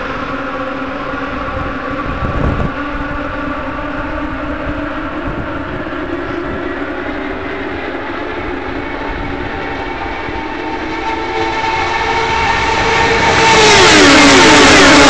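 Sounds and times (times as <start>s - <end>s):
race cars engine drone: 0.0s - 15.0s.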